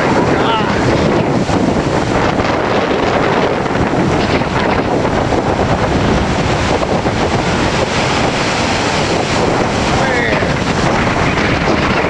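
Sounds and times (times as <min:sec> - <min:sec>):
strong gusting wind on microphone: 0:00.0 - 0:12.0.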